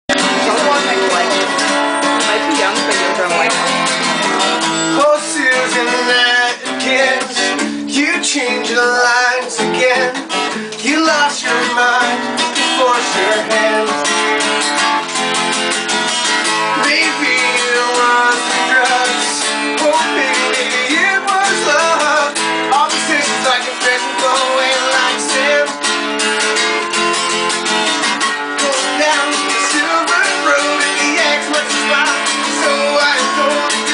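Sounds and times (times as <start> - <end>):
acoustic guitar strumming chords: 0.1 - 33.9.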